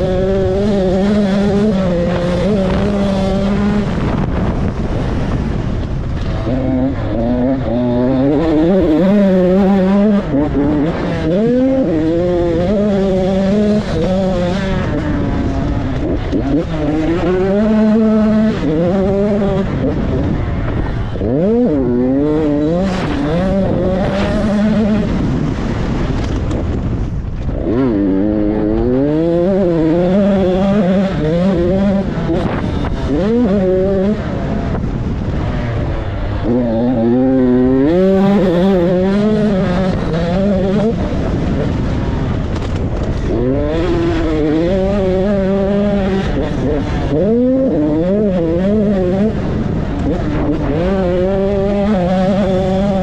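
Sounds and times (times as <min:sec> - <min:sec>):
motocross motorcycle engine revving: 0:00.0 - 0:53.0.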